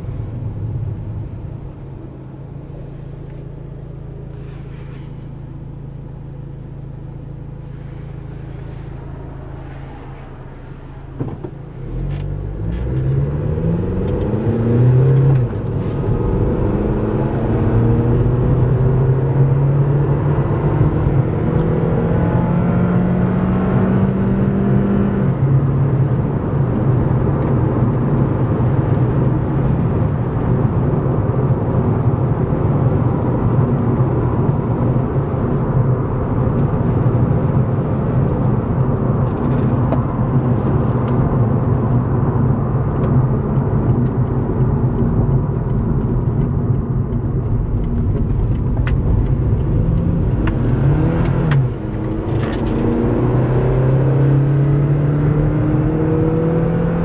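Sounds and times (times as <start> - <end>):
car engine idling and accelerating: 0.0 - 57.0
tyre and road noise: 7.5 - 57.0.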